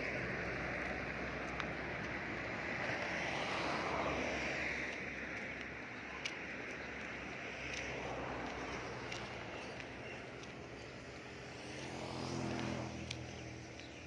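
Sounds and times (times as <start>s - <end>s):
outdoor background noise: 0.0s - 14.0s
vehicle passing on road: 0.0s - 14.0s.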